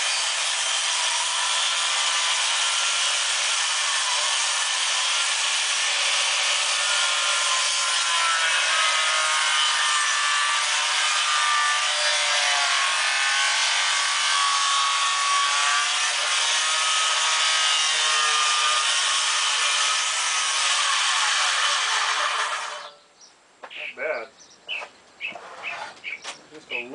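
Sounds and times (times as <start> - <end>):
power tool working wood: 0.0 - 23.0.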